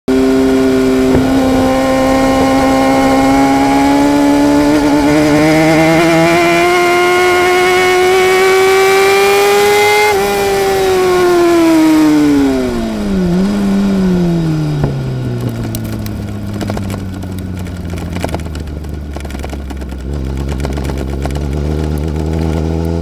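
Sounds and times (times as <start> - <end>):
motorcycle engine accelerating: 0.1 - 23.0.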